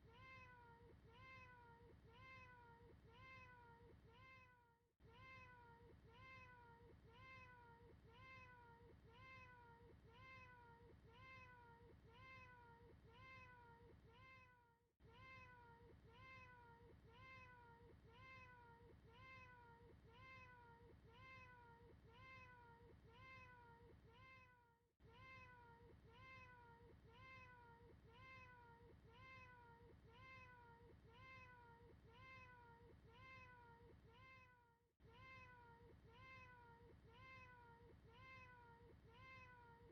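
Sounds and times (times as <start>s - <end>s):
cat meow looped: 0.0s - 39.9s.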